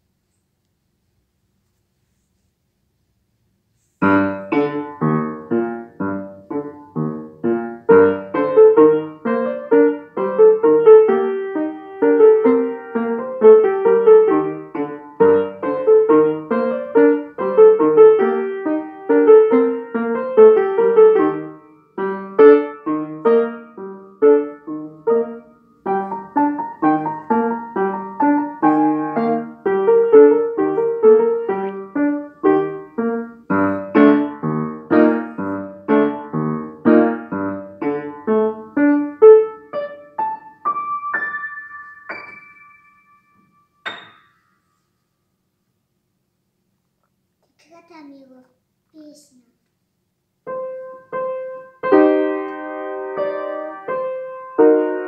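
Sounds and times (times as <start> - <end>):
upright piano playing: 4.0 - 44.4, 50.4 - 55.0.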